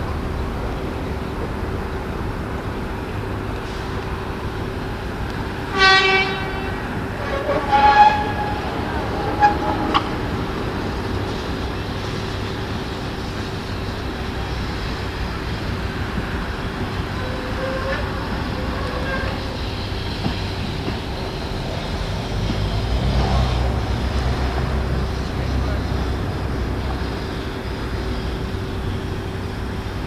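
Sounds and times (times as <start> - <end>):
tram rolling on track: 0.0 - 30.0.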